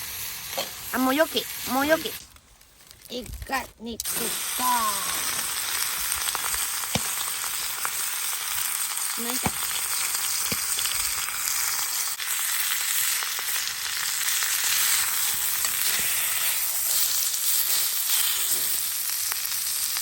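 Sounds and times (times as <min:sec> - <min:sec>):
food sizzling in a pan: 0:00.0 - 0:02.3, 0:04.0 - 0:20.0.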